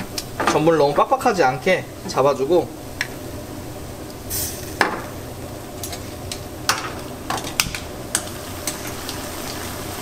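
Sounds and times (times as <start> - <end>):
steady low background noise: 0.0 - 10.0.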